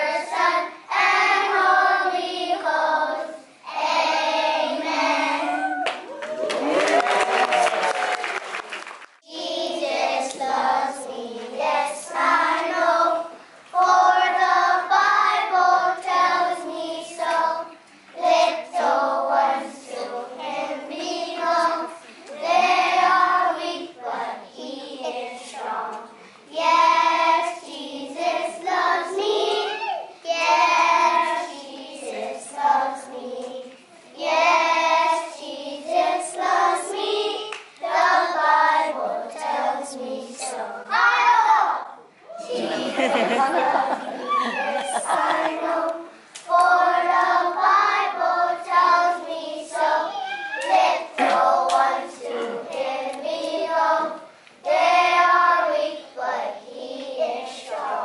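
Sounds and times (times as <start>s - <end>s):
children singing together: 0.0s - 5.9s, 9.2s - 58.0s.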